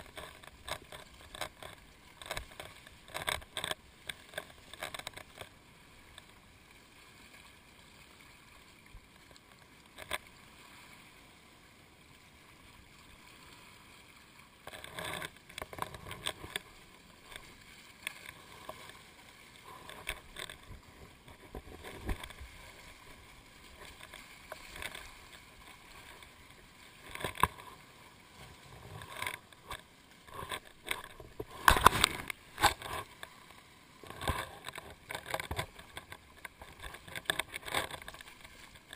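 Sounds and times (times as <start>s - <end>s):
muffled water lapping and splashing: 0.0s - 38.9s.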